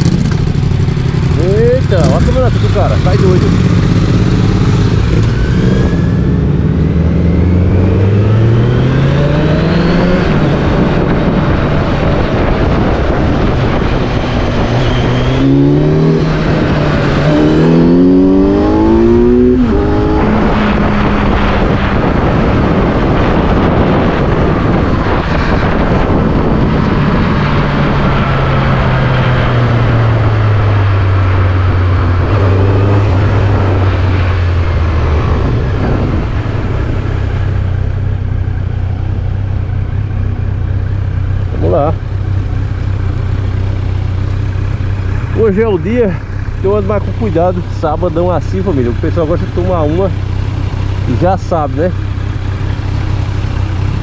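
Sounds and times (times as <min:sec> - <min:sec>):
road noise: 0:00.0 - 0:54.0
vehicle engine accelerating: 0:00.0 - 0:54.0.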